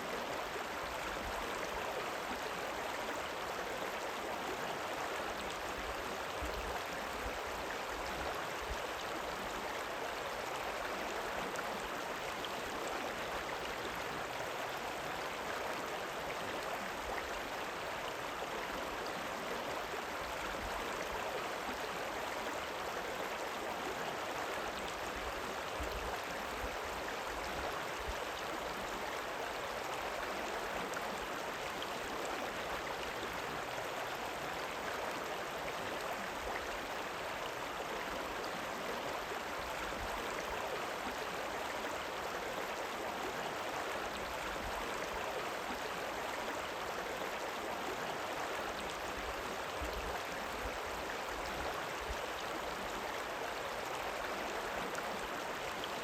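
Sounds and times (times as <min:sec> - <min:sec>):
river rippling: 0:00.0 - 0:56.0.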